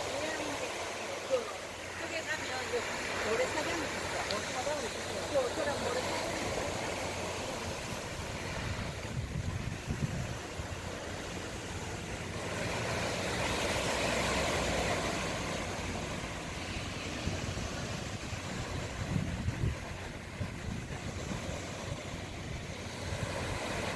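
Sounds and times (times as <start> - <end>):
sea surf on shore: 0.0 - 23.9
wind on microphone: 3.7 - 23.9.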